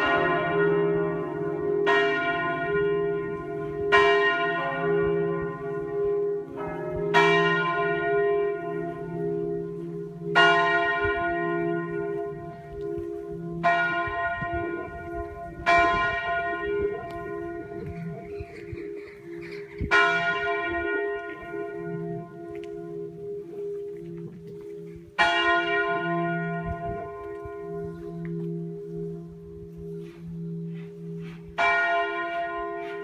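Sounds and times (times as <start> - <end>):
church bell strokes: 0.0 - 33.0
continuous low ringing: 0.0 - 33.0.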